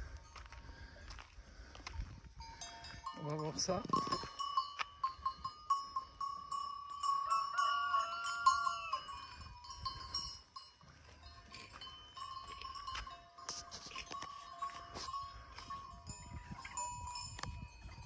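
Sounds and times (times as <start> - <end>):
livestock bells clinking: 0.0 - 1.2, 2.3 - 18.0.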